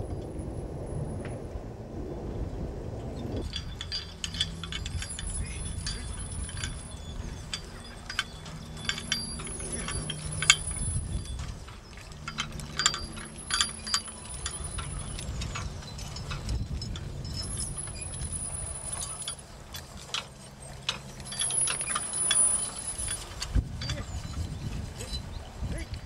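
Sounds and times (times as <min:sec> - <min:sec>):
harness chains jangling: 0:03.4 - 0:25.5
metal seed drill parts clinking: 0:03.4 - 0:26.0.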